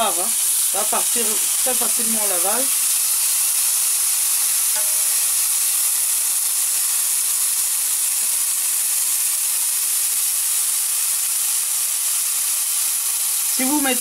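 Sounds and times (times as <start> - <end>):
food sizzling in grill pan: 0.0 - 14.0.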